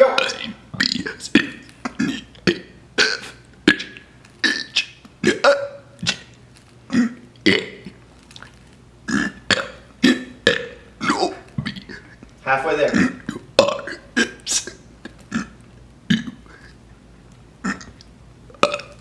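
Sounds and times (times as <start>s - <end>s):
person burping: 0.0s - 6.3s, 6.9s - 8.0s, 9.0s - 12.1s, 12.9s - 16.7s, 17.6s - 19.0s.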